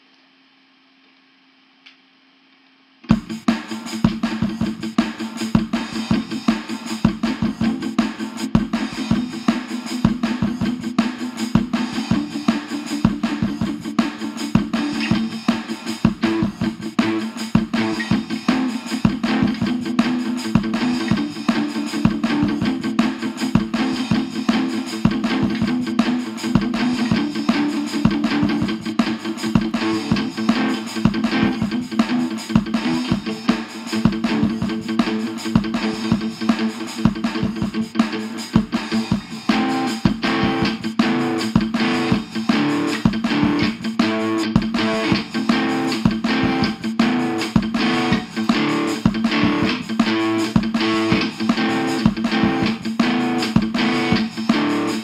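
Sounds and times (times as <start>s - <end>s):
guitar: 3.0s - 55.0s
steady drum beat: 3.1s - 55.0s.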